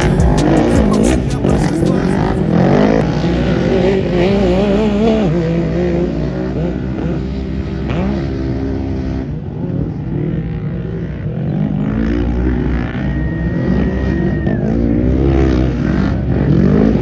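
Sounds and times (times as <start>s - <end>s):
off-road vehicle engines revving: 0.0s - 17.0s.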